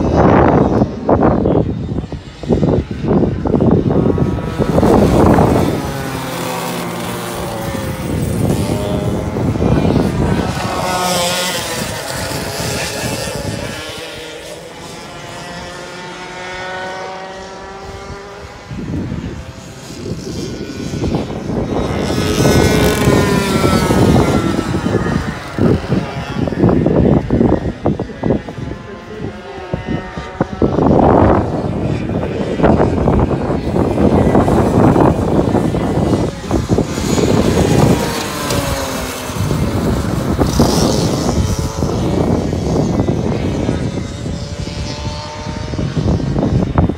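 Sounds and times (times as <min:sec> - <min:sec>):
go-kart engines revving: 0:00.0 - 0:46.9
wind rumbling on microphone: 0:00.0 - 0:46.9.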